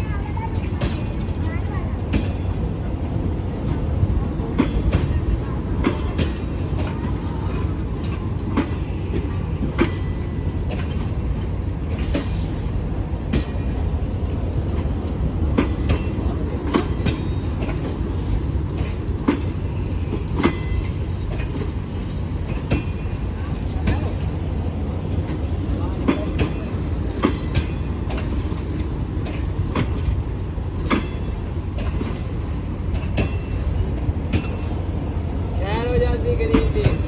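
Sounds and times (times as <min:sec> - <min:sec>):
train rumble: 0:00.0 - 0:37.0
wheels clanking over rail joints: 0:00.0 - 0:37.0.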